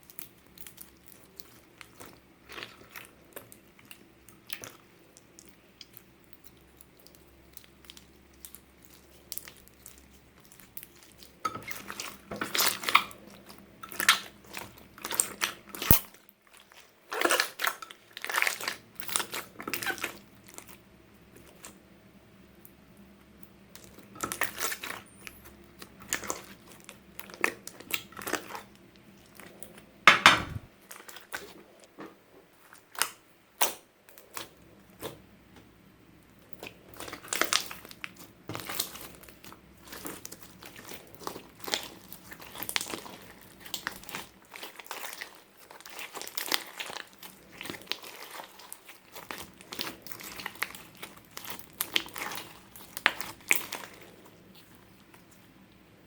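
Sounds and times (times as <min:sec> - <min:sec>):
slime squishing and crackling: 0:00.0 - 0:21.8, 0:23.7 - 0:29.8, 0:30.8 - 0:31.6, 0:32.6 - 0:35.2, 0:36.4 - 0:55.6.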